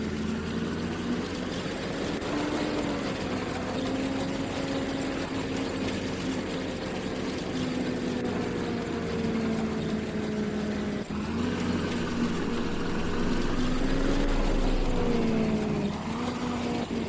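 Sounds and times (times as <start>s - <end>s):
combine harvester engine running: 0.0s - 17.0s.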